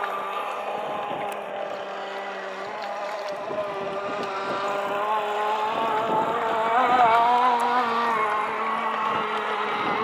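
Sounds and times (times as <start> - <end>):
small two-stroke boat engine buzzing: 0.0 - 10.0.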